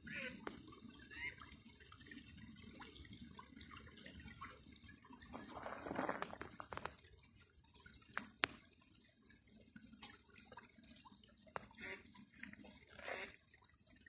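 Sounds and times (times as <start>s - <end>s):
stream trickling over stones: 0.0s - 14.0s.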